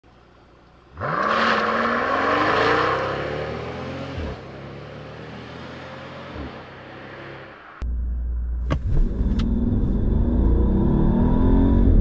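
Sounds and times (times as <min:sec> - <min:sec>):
engine drone: 0:00.1 - 0:12.0
car engine accelerating: 0:00.9 - 0:12.0.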